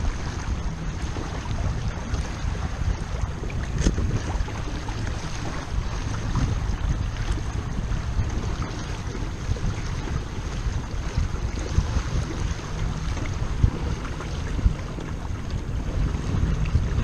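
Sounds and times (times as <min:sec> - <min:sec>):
water splashing past hull: 0:00.0 - 0:17.0
wind buffeting microphone: 0:00.0 - 0:17.0.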